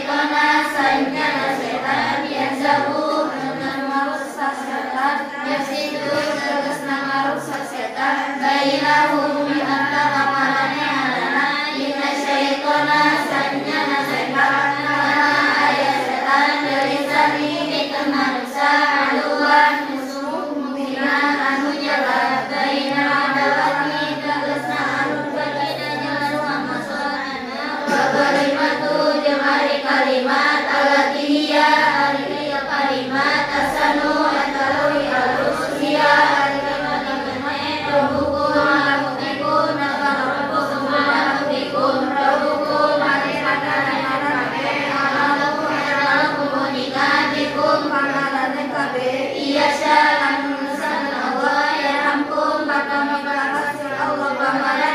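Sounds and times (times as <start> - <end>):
women chanting in unison: 0.0 - 54.9.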